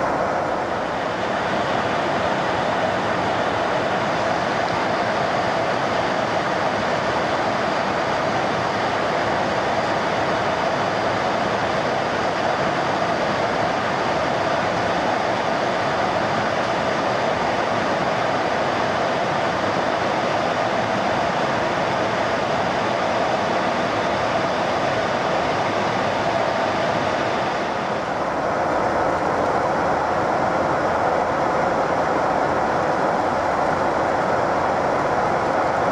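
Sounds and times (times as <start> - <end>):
jet engine cabin drone: 0.0 - 35.9.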